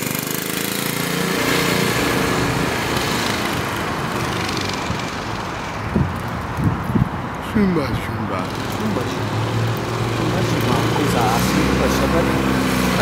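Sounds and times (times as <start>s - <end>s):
minibike engine revving: 0.0s - 6.2s, 8.3s - 13.0s.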